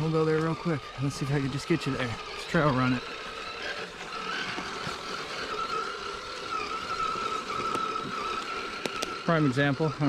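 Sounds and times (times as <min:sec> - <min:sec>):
electric motor and gears whining: 0:00.0 - 0:10.0.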